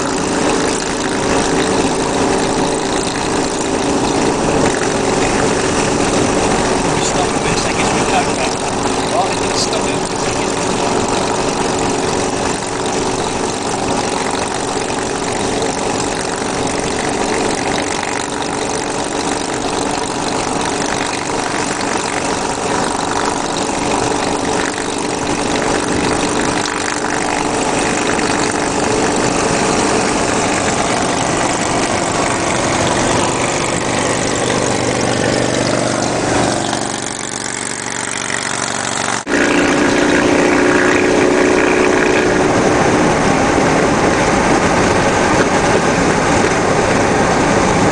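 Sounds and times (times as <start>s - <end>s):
vehicle engine humming: 0.0s - 47.9s.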